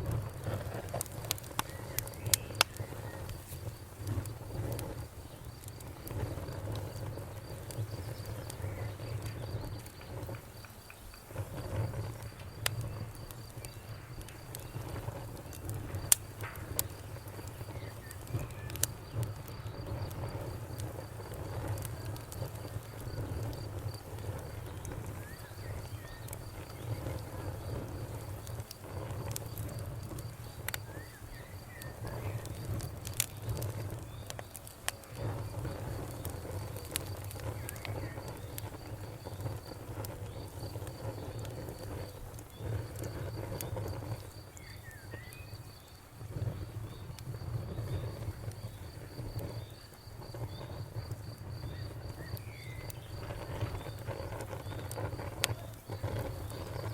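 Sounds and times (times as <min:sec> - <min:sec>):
campfire crackling and popping: 0:00.0 - 0:56.9
low fire rumble: 0:00.0 - 0:56.9.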